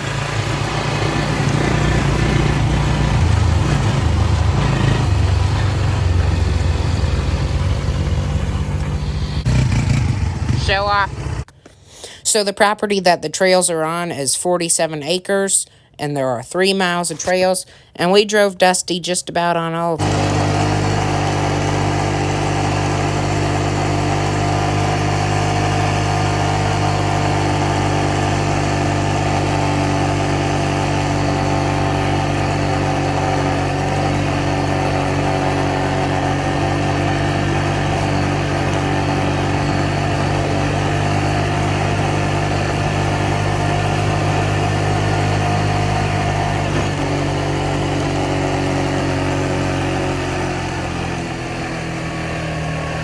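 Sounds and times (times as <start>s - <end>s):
small vehicle engine running: 0.0s - 11.5s, 20.0s - 53.0s.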